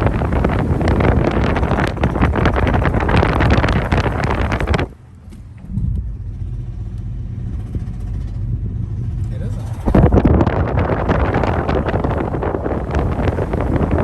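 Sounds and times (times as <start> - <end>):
car engine low rumble: 0.0 - 14.0
rough crackling rushing noise: 0.0 - 14.0.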